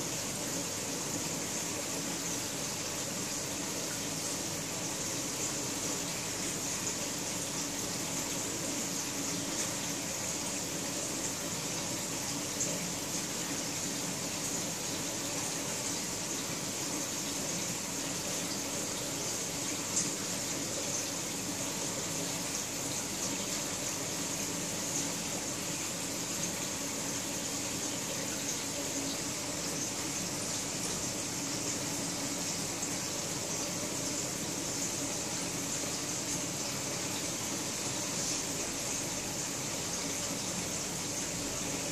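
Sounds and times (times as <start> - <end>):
aquarium filter water hiss: 0.0 - 41.9.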